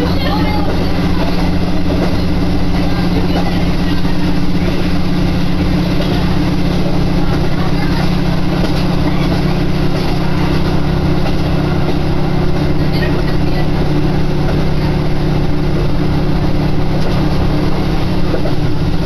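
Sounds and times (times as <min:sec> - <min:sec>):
diesel engine drone: 0:00.0 - 0:19.0
train wheels rolling on rail: 0:00.0 - 0:19.0.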